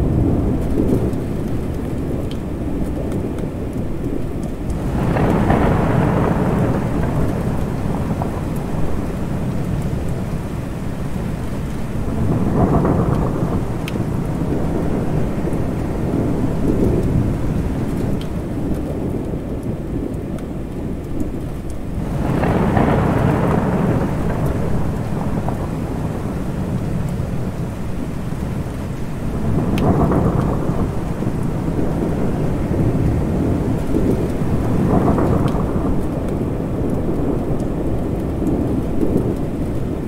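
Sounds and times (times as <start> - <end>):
rolling thunder: 0.0 - 40.0
steady rain: 0.0 - 40.0.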